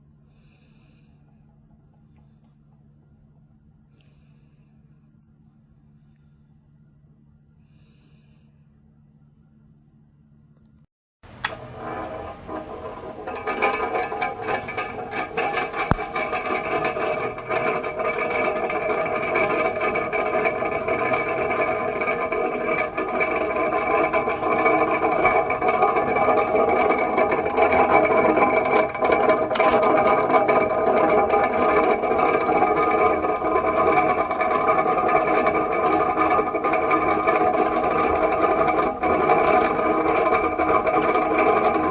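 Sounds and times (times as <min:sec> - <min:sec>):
fan motor hum with whining tones: 0:00.0 - 0:41.9.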